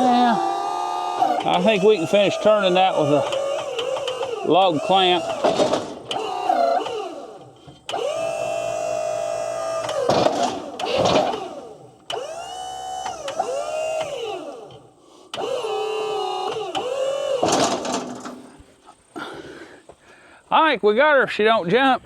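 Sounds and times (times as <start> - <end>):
hydraulic pump motor whining: 0.0 - 18.7.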